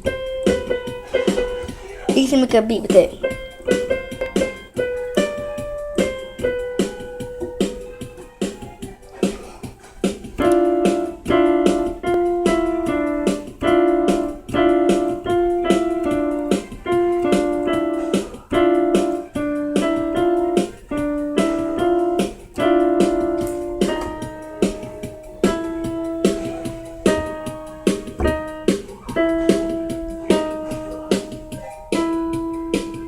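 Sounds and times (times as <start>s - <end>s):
electronic keyboard chords: 0.0s - 33.0s
percussive beats: 0.0s - 33.0s.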